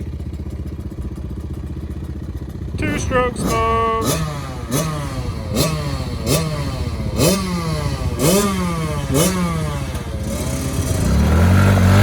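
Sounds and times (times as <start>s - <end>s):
two-stroke dirt bike engine blipping: 0.0s - 12.0s.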